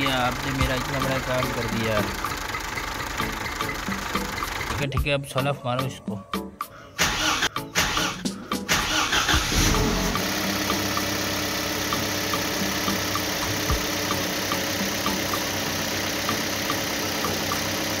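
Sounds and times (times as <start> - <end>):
vehicle engine starting and idling: 0.0 - 5.0, 7.0 - 18.0.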